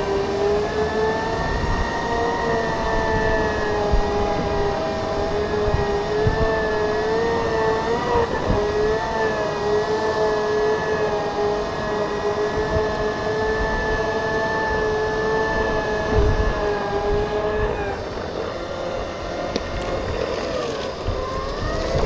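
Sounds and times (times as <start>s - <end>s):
electric motor whining: 0.0s - 22.0s
wind rumbling on microphone: 0.0s - 22.0s.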